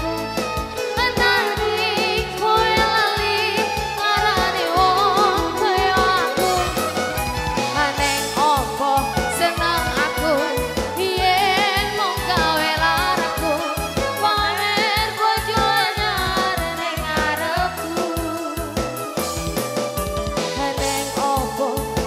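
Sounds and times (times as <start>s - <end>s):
live band playing: 0.0s - 22.0s
person singing with vibrato: 0.9s - 19.2s, 20.6s - 22.0s
steady drum beat: 2.2s - 22.0s.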